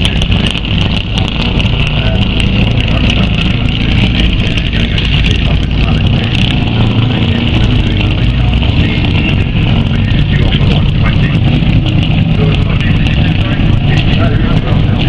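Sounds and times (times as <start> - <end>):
rally car engine crackling: 0.0 - 15.0.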